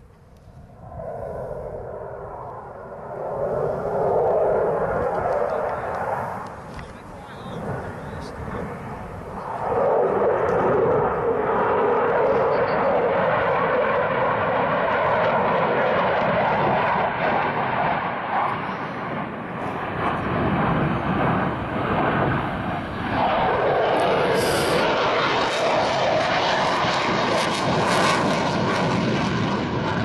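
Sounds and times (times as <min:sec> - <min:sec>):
fighter jet roaring: 0:00.6 - 0:30.0.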